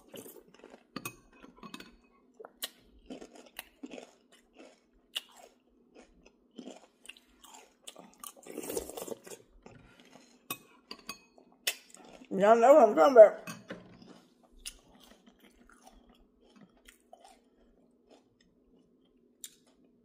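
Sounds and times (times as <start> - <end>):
person chewing food: 0.0 - 12.3, 13.8 - 20.0.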